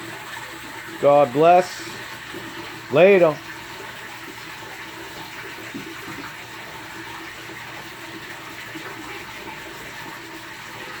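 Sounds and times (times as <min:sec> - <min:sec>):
water pouring into aquarium: 0:00.0 - 0:11.0.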